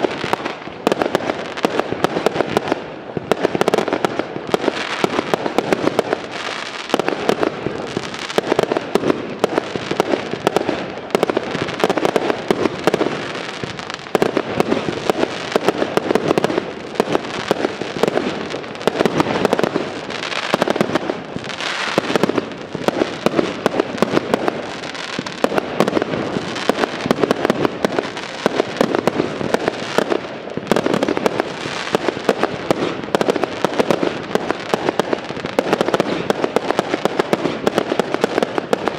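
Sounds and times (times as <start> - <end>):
fireworks bursts and bangs: 0.0 - 38.9
fireworks crackle: 0.0 - 38.9.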